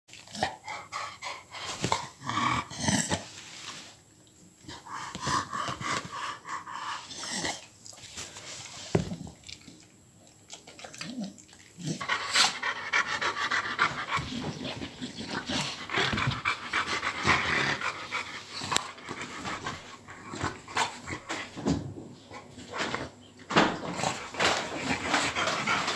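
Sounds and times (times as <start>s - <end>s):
dogs panting and sniffing: 0.1s - 25.9s.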